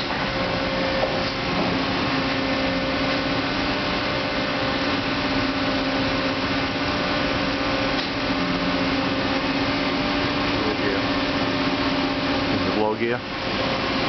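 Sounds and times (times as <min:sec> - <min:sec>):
lathe running: 0:00.0 - 0:14.0.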